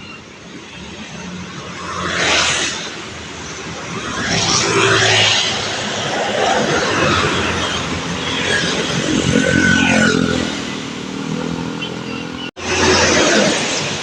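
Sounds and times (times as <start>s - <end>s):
motorcycles driving past: 0.7s - 14.0s.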